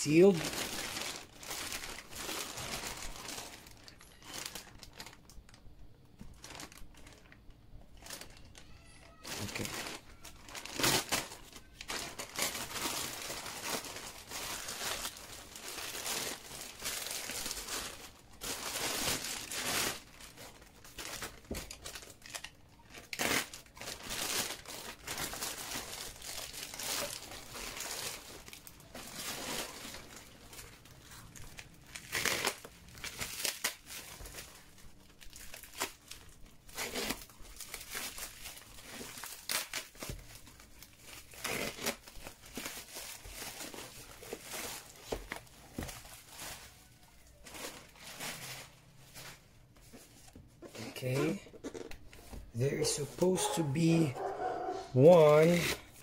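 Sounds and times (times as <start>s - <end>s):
packaging crinkling and tearing: 0.0s - 56.0s.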